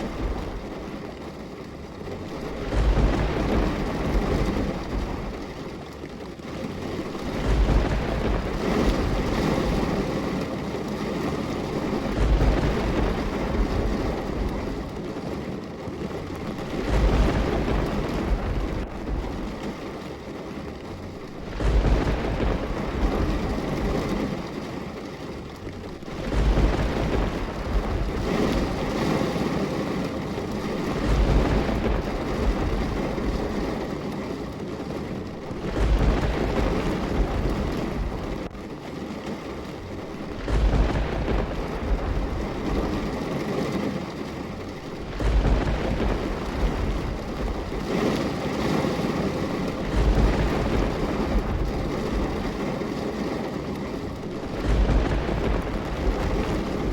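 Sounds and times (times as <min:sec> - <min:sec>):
deep rumble: 0:00.0 - 0:56.9
rain falling: 0:00.0 - 0:56.9.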